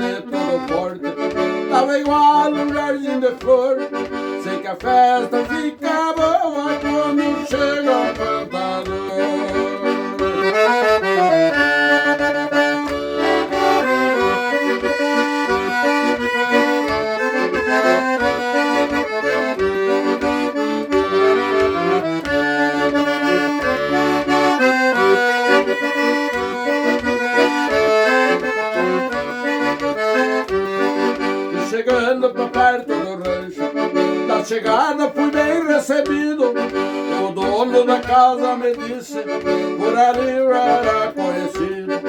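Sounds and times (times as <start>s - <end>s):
accordion melody: 0.0s - 42.0s.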